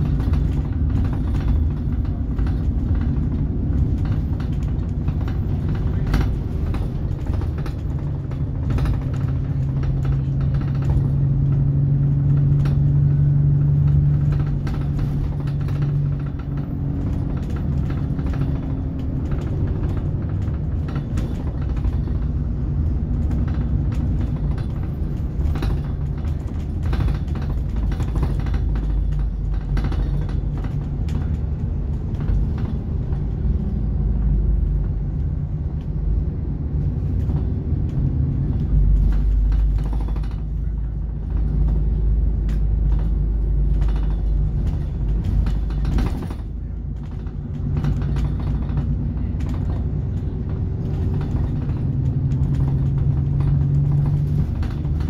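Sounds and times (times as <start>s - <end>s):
bus body rattles: 0.0s - 55.0s
bus engine and road rumble: 0.0s - 55.0s
deeper rumble: 0.0s - 55.0s.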